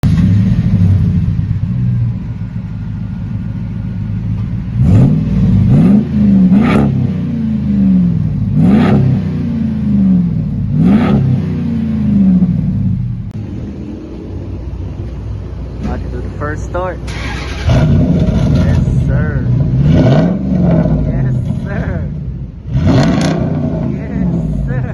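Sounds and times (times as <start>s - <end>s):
vee-eight exhaust revving: 0.0s - 24.9s.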